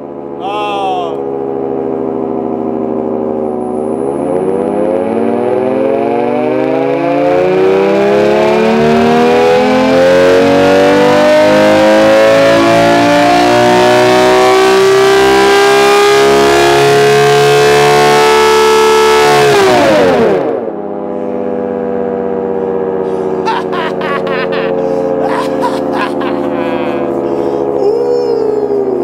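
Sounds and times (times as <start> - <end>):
air raid siren wailing: 0.0 - 29.0.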